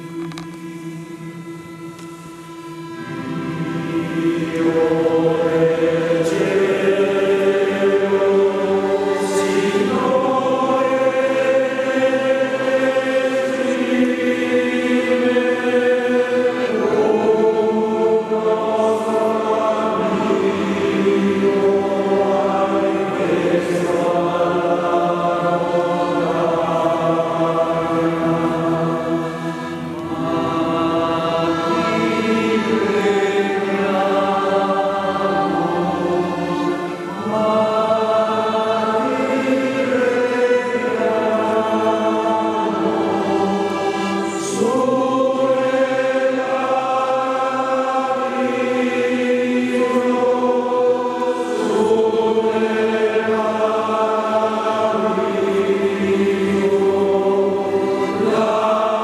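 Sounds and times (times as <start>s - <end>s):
accordion: 0.0s - 59.0s
male choir singing: 2.8s - 59.0s.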